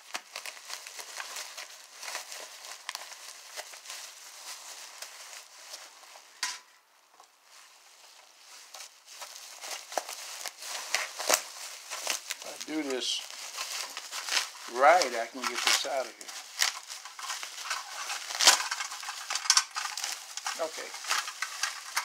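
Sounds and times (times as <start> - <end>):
packing material rustling: 0.0 - 22.0.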